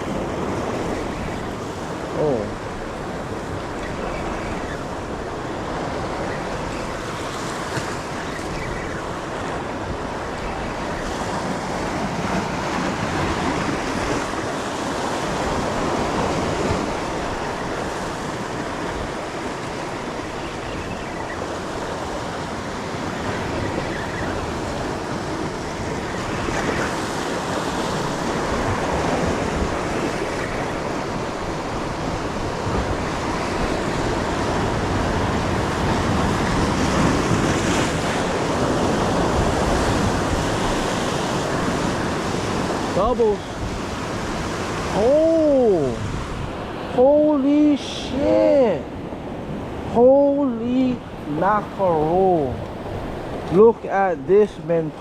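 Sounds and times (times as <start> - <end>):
ocean surf washing ashore: 0.0 - 55.0.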